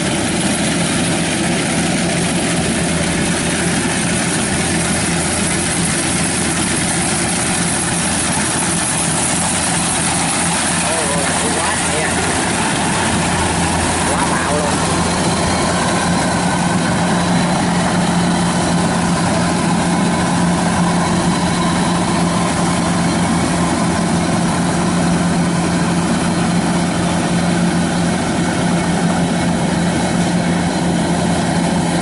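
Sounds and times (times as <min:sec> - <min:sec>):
diesel engine droning: 0:00.0 - 0:32.0
threshing machinery noise: 0:00.0 - 0:32.0.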